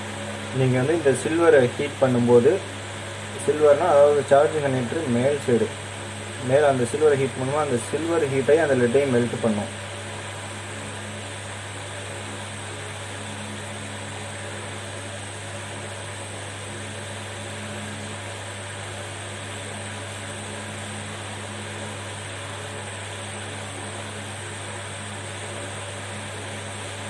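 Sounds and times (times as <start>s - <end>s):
constant low hum: 0.0s - 27.0s.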